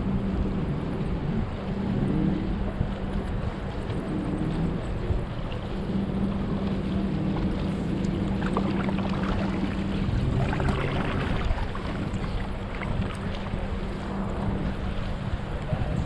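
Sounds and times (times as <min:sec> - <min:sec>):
low hum: 0:00.0 - 0:16.0
water lapping: 0:00.0 - 0:16.0
wind on microphone: 0:00.0 - 0:16.0
paddle splashing: 0:00.7 - 0:16.0.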